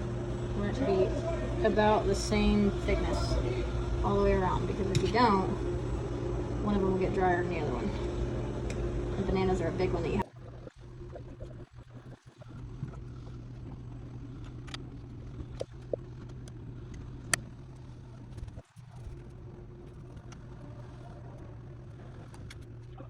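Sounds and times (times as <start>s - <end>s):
machine electric hum: 0.0s - 23.0s.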